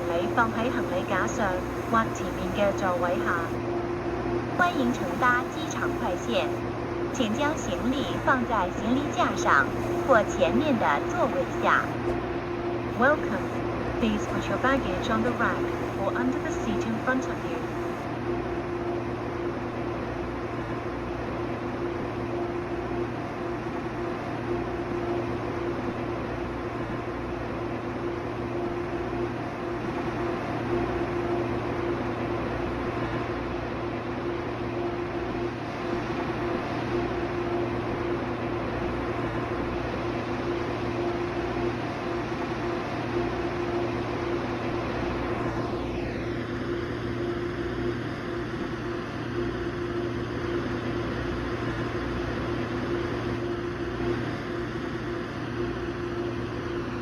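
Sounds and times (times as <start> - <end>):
train air-conditioning hum and hiss: 0.0 - 57.0.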